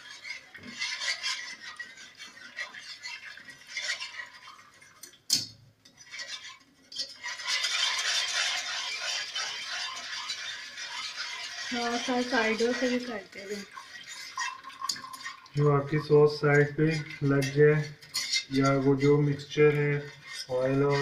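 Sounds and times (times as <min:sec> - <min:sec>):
whisk scraping against pan: 0:00.0 - 0:21.0.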